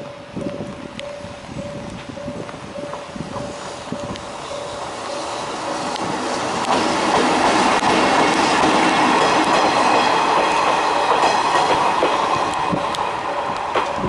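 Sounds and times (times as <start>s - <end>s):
train wheels rumbling and clacking: 0.0s - 14.0s.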